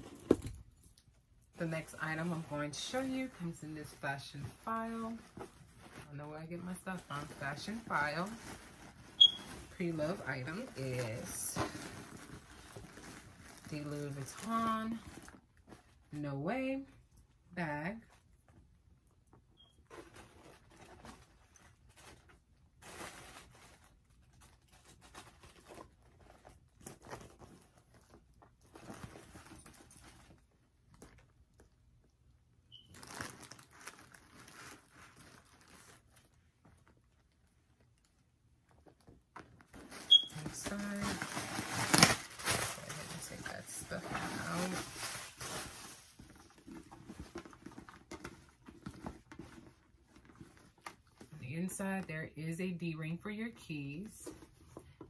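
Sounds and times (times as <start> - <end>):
bag rustling and crinkling: 1.6 - 16.1, 19.8 - 31.7, 32.7 - 37.9, 38.7 - 51.4.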